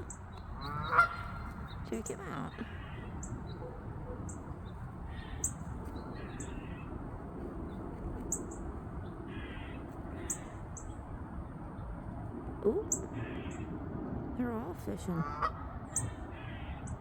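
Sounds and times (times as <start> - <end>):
harsh bird calls: 0.0 - 13.9, 15.1 - 17.0
low outdoor background: 0.0 - 17.0.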